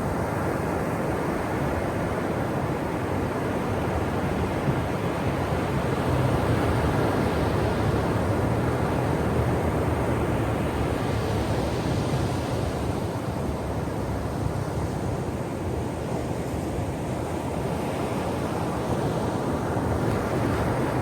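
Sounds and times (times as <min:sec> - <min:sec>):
ocean waves breaking on shore: 0:00.0 - 0:21.0.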